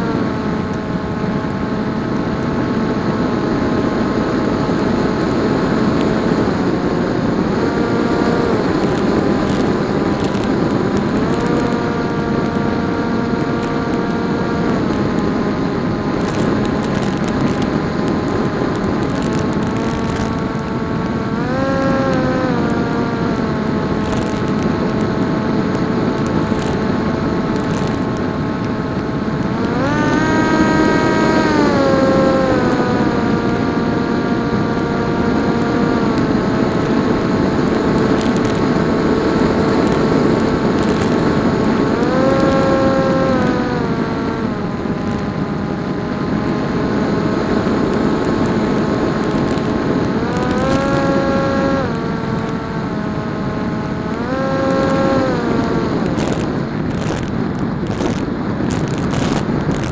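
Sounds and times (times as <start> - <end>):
model aircraft motor whining: 0.0 - 59.9.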